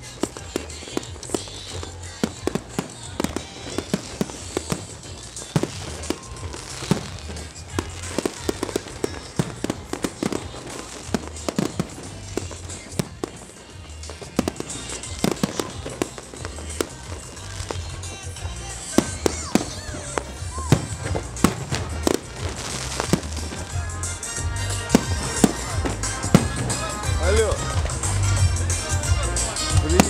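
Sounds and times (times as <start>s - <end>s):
firework crackling: 0.0s - 30.0s
firework shells bursting: 0.0s - 30.0s.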